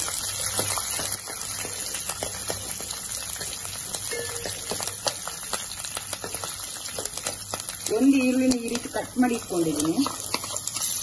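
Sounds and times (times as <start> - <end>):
frying sizzle with pops: 0.0 - 11.0.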